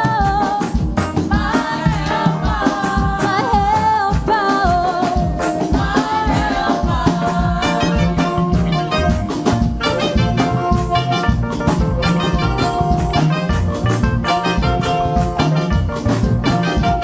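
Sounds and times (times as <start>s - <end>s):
live gospel band: 0.0s - 17.0s
steady drum beat: 0.0s - 17.0s.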